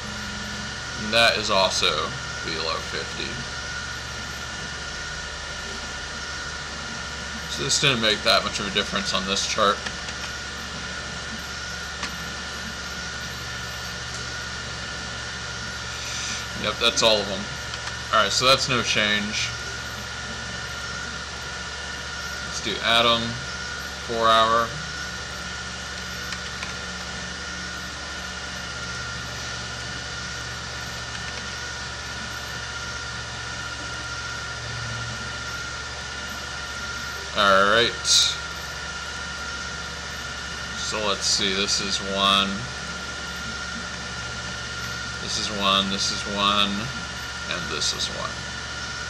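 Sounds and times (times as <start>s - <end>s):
high whine: 0.0s - 49.0s
room hum and hiss: 0.0s - 49.0s.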